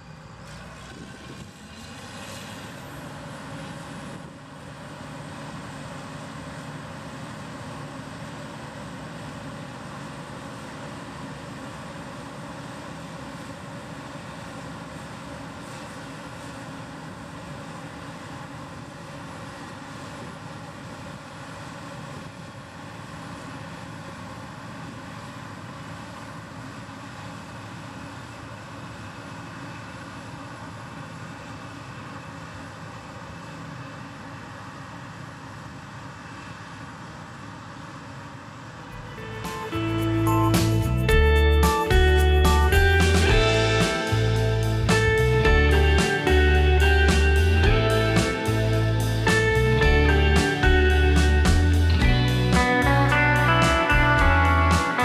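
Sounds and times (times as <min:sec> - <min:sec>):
combine harvester drone with whine: 0:00.0 - 0:55.0.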